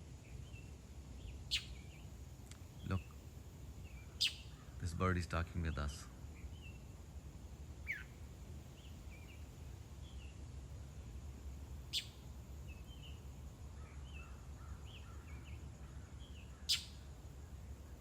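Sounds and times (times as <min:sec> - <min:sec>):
low background rumble: 0:00.0 - 0:18.0
small bird chirping: 0:00.2 - 0:18.0.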